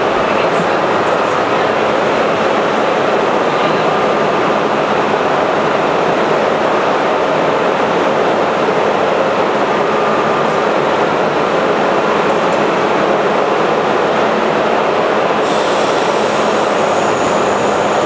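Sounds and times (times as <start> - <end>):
train air-conditioning hum and hiss: 0.0 - 18.0.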